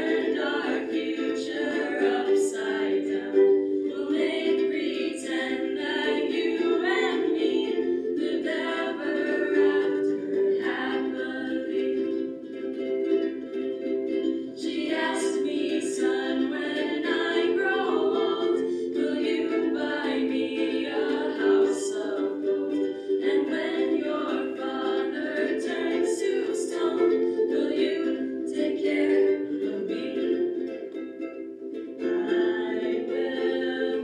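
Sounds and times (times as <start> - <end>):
ukuleles strummed: 0.0 - 34.0
voices singing: 0.0 - 34.0.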